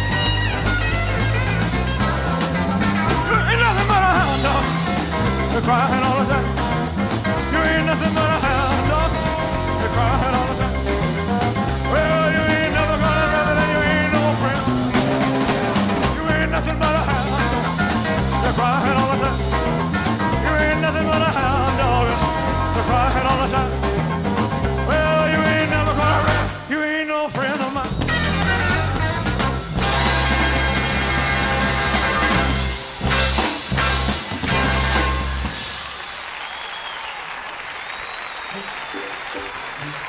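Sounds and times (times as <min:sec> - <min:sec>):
instrumental rock and roll music: 0:00.0 - 0:36.3.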